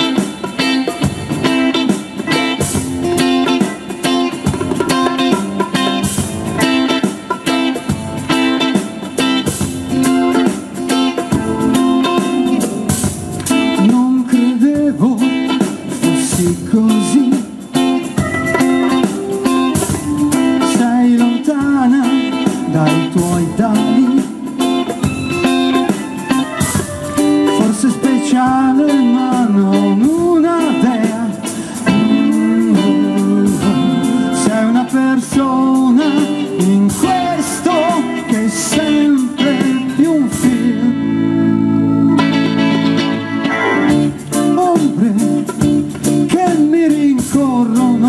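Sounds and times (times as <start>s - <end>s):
hand drums: 0.0s - 40.9s
electric guitar bending notes: 0.0s - 48.0s
keyboard: 0.0s - 48.0s.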